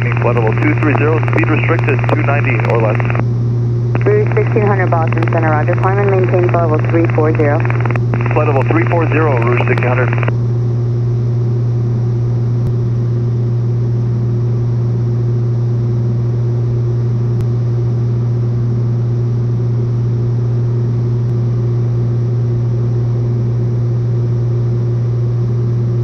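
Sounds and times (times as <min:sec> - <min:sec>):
airplane engine and propeller droning: 0:00.0 - 0:26.0.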